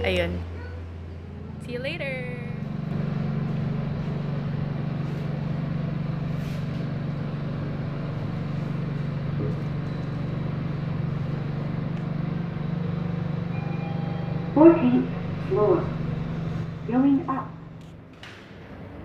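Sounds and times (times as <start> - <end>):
elevator hum: 0.0 - 19.0.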